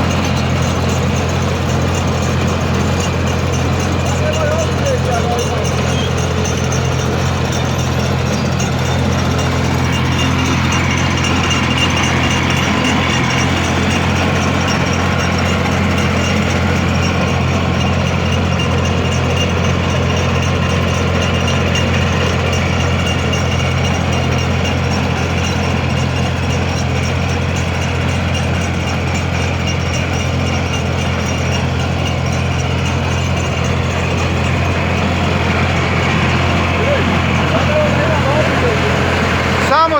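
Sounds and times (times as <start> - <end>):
rotary tiller engine running: 0.0 - 39.9.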